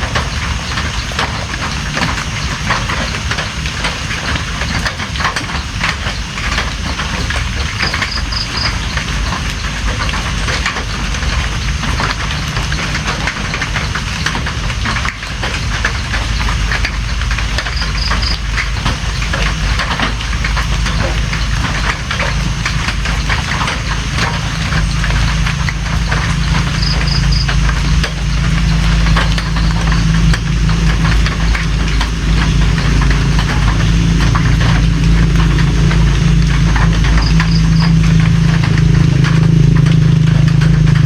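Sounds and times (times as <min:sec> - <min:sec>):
heavy rain falling: 0:00.0 - 0:41.0
low rumble: 0:00.0 - 0:41.0.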